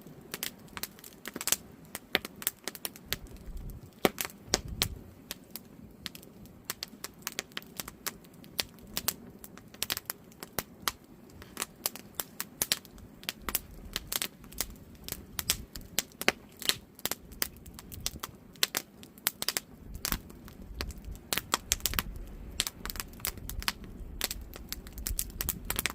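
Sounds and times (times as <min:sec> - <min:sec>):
campfire crackling: 0:00.0 - 0:25.9
flames rushing softly: 0:00.0 - 0:25.9.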